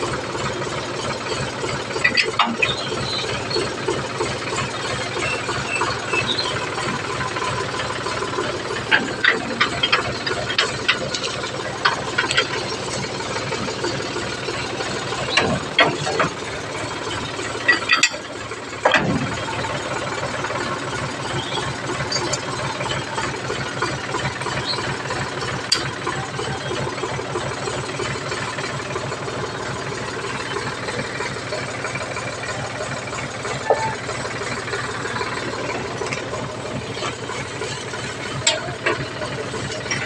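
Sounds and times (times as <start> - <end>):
tractor diesel engine idling: 0.0 - 40.0.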